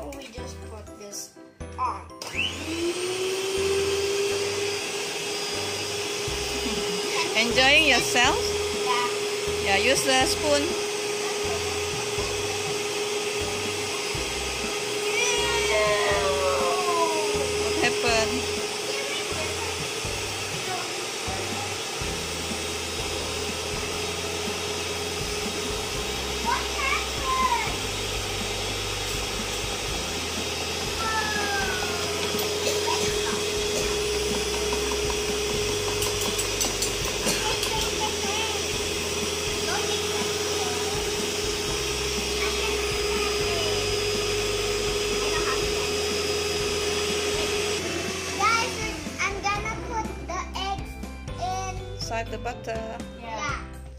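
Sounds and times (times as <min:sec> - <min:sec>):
stand mixer motor whirring: 0:02.2 - 0:49.8.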